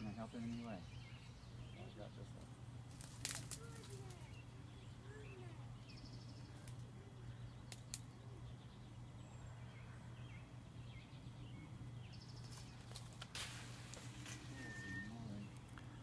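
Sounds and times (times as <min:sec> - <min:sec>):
low hum of bee swarm: 0:00.0 - 0:16.0
small birds chirping: 0:00.0 - 0:16.0.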